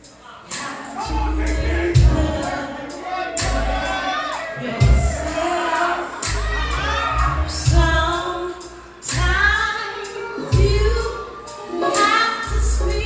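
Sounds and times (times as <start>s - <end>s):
backing track: 0.0s - 13.0s
person singing with vibrato: 0.0s - 13.0s.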